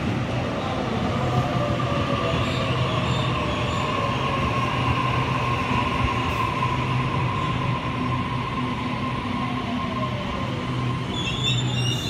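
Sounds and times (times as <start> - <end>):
electric train rumble and whine: 0.0 - 12.0.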